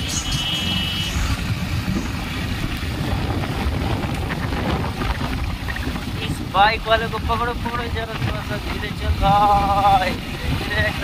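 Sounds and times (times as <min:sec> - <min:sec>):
motorcycle road noise: 0:00.0 - 0:11.0
wind buffeting microphone: 0:00.0 - 0:11.0.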